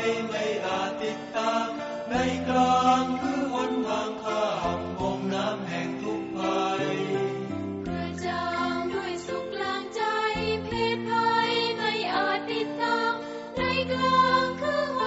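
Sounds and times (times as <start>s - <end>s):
chant-like singing voice: 0.0s - 15.0s.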